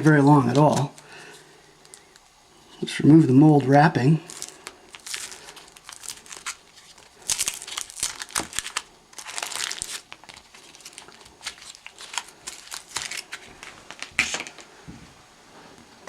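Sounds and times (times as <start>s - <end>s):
wrapping crinkling and tearing: 0.0s - 3.2s, 4.0s - 14.8s.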